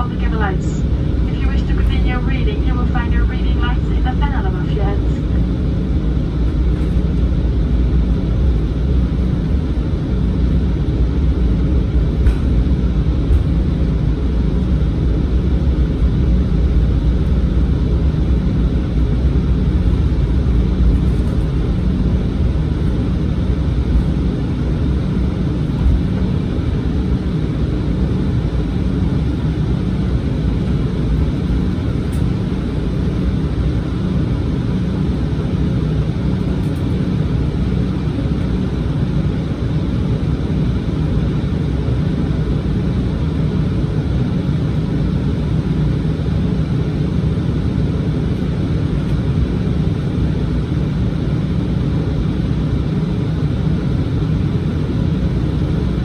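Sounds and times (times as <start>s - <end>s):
jet cabin engine rumble: 0.0s - 56.0s.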